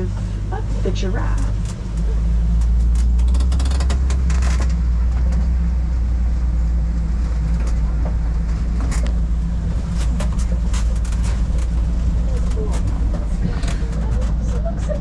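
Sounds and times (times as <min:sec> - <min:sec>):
truck engine droning: 0:00.0 - 0:15.0
vehicle rattles and knocks: 0:00.0 - 0:15.0.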